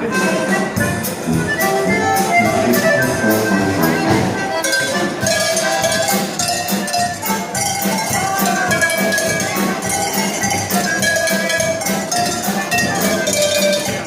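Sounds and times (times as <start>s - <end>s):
cowbells played as a tune: 0.0s - 14.0s.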